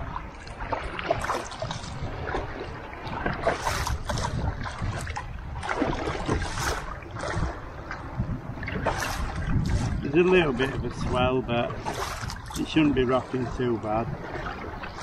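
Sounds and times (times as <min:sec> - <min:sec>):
low wind rumble on microphone: 0:00.0 - 0:15.0
paddle strokes splashing: 0:00.0 - 0:15.0
water lapping against plastic hull: 0:00.0 - 0:15.0.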